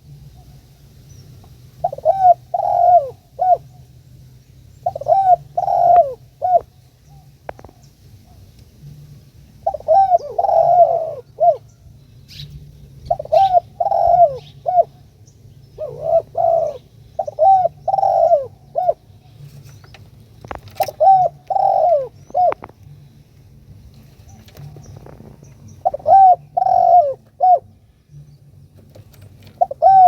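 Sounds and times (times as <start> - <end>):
dove cooing: 1.3 - 3.9, 4.8 - 30.0.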